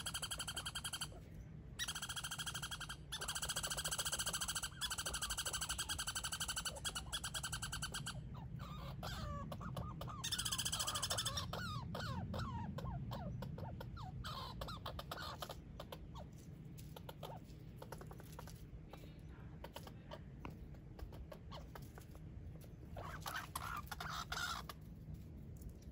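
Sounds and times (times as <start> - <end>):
squirrel chattering trill: 0.0 - 24.9
squirrel squeaky chirps: 0.0 - 24.9.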